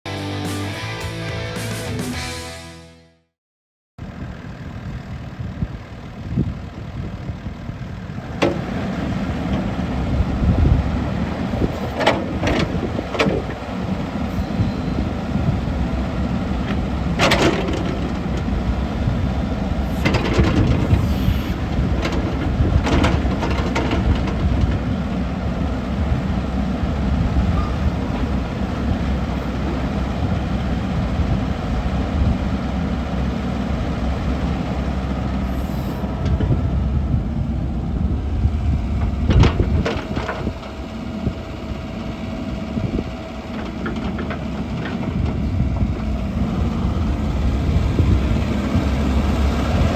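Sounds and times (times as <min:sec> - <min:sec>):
excavator diesel engine running: 0:04.0 - 0:49.9.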